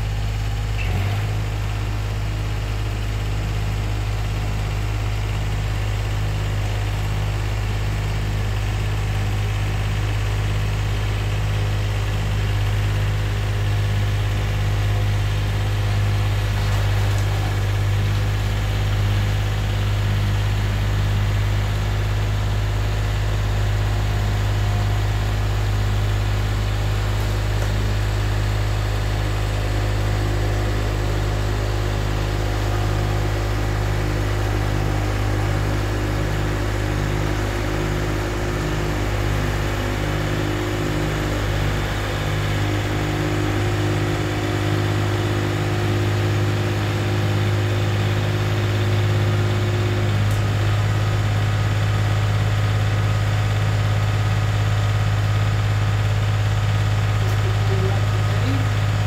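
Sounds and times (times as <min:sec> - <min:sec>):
snowblower running: 0:00.0 - 0:59.0.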